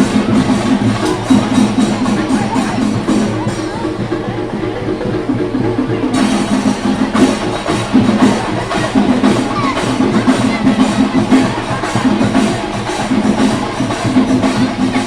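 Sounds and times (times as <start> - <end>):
drums beaten in fast rhythm: 0.0 - 15.0.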